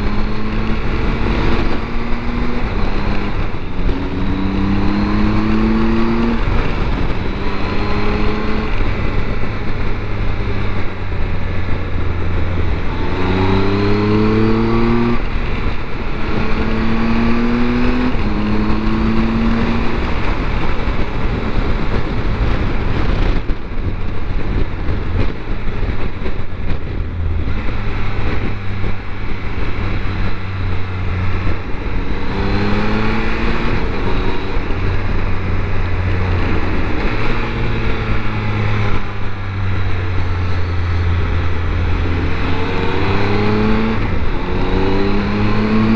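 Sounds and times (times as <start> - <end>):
motorcycle engine revving: 0.0 - 45.9
wind noise: 0.0 - 45.9.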